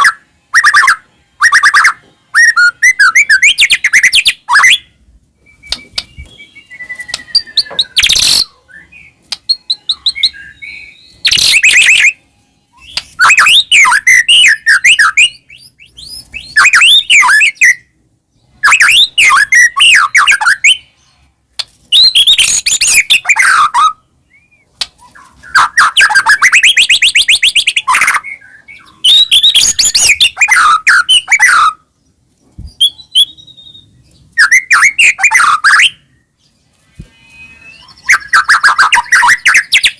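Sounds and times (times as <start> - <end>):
bird singing whistled phrases: 0.0 - 17.9, 18.6 - 20.9, 21.9 - 31.8, 32.7 - 36.3, 37.1 - 39.9
bird chirps: 0.0 - 21.3, 21.9 - 39.9.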